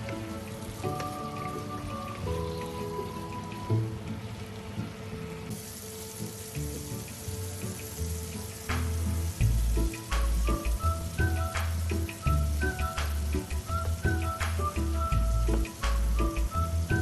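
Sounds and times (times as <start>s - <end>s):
rain-like hiss: 0.0s - 17.0s
soft background music: 0.0s - 17.0s.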